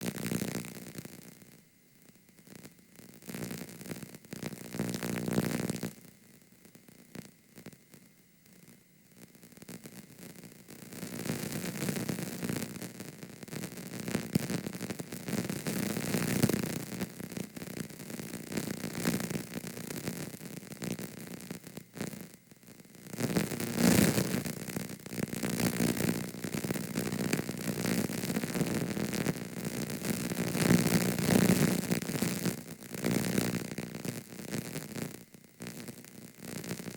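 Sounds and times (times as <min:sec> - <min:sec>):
tape crackling static and hiss: 0:00.0 - 0:36.9.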